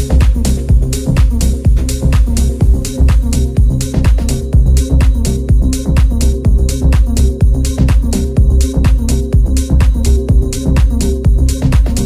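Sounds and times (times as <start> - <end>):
electro house music: 0.0 - 12.0.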